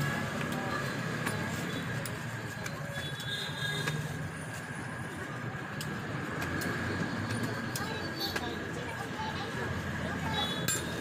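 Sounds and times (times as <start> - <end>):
hiss and hum of food stall: 0.0 - 11.0.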